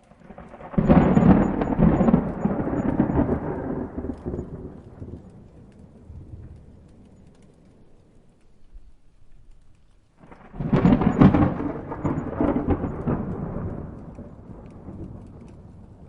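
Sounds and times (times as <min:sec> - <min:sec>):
steady rain: 0:00.0 - 0:16.0
thunderclap rolling into rumble: 0:00.2 - 0:09.0, 0:10.2 - 0:16.0.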